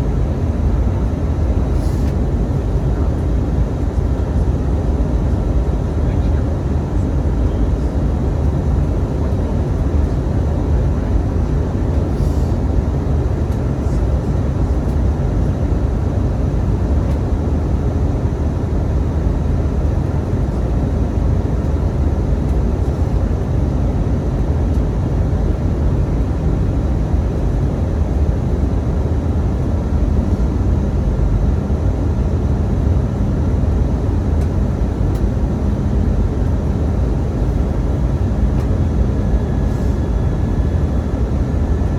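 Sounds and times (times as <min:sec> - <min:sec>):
airliner cabin roar: 0:00.0 - 0:41.9.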